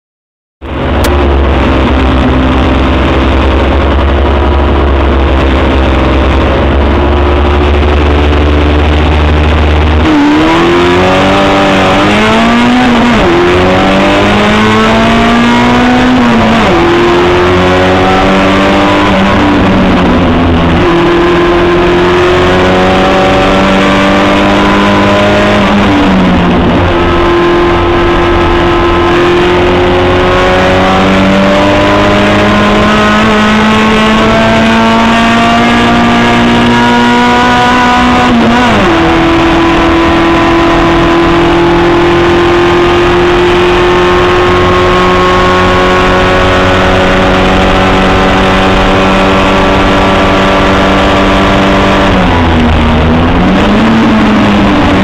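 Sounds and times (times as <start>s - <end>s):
race car engine accelerating: 0.6s - 55.0s.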